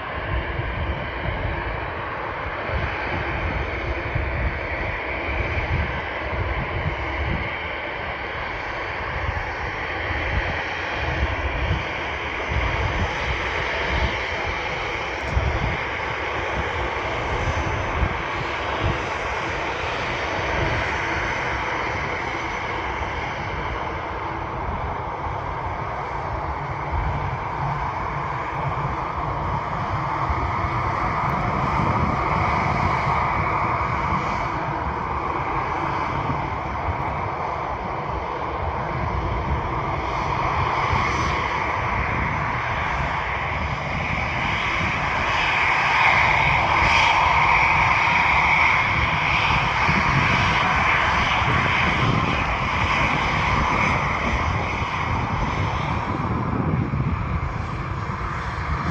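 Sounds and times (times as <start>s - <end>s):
aircraft engines rushing: 0.0s - 58.9s.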